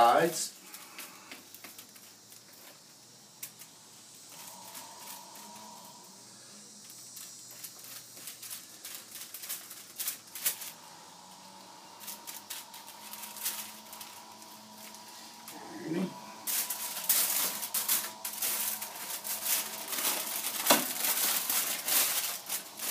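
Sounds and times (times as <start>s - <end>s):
aluminum foil crinkling: 0.0s - 3.7s, 4.3s - 22.9s.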